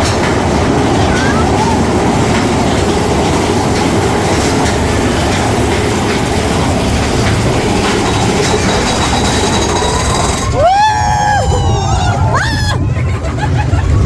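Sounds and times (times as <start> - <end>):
roller coaster wheels rumbling on rails: 0.0 - 14.0.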